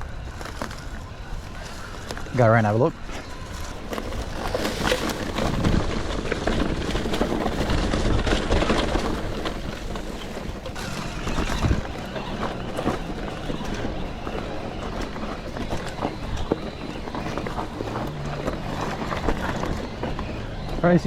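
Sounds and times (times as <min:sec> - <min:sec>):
tyre and wind noise: 0:00.0 - 0:21.0
bike clattering over rocks: 0:01.9 - 0:21.0.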